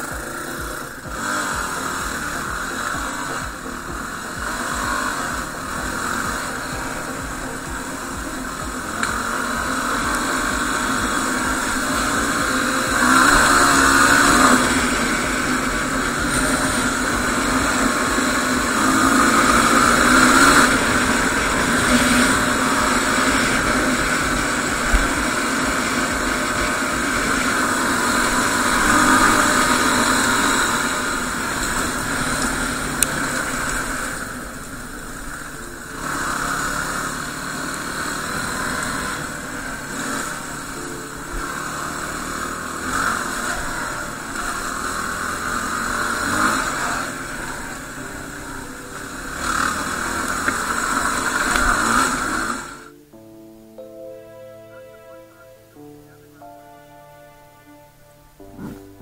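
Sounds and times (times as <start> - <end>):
motorcycle engine revving: 0.0 - 53.2, 58.3 - 59.0.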